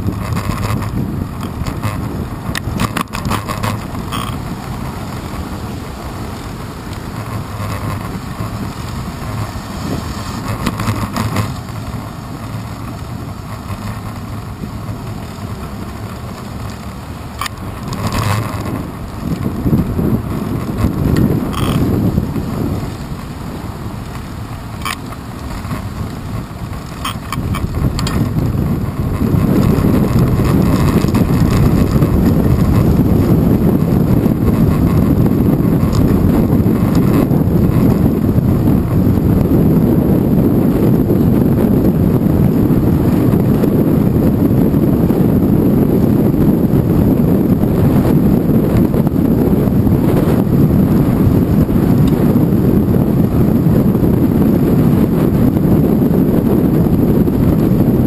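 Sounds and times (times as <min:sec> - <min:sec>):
bicycle tyres rumbling: 0:00.0 - 0:58.0
wind on microphone: 0:00.0 - 0:58.0.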